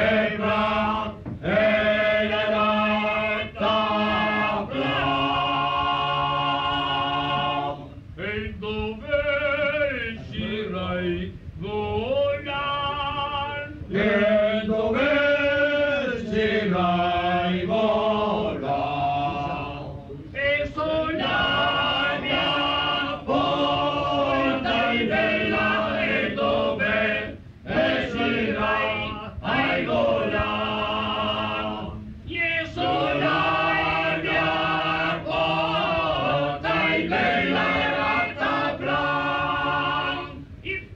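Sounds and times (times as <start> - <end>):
group singing folk song: 0.0 - 40.6.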